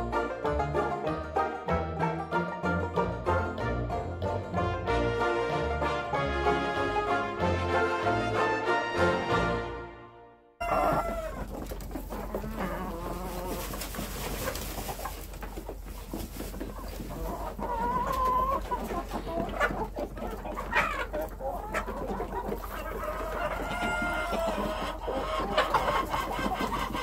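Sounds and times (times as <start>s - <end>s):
hens clucking: 0.0s - 9.3s, 10.6s - 27.0s.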